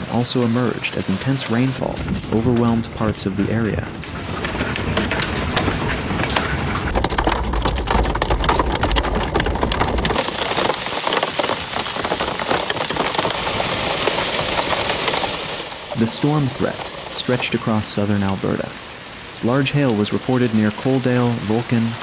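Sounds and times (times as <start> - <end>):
heavy rain pelting: 0.0 - 22.0.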